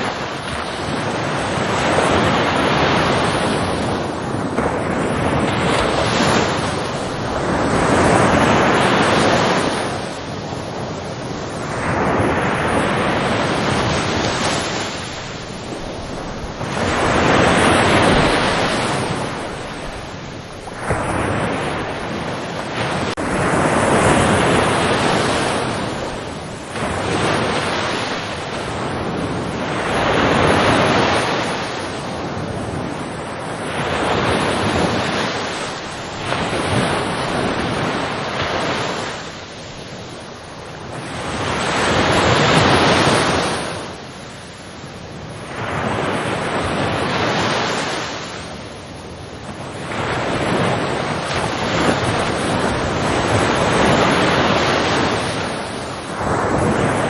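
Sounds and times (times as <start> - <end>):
ocean waves breaking: 0.0 - 57.0
wind on microphone: 0.0 - 57.0.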